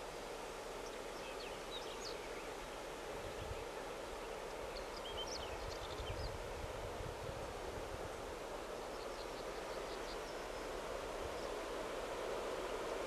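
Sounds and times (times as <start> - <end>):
faint outdoor hum: 0.0 - 13.0.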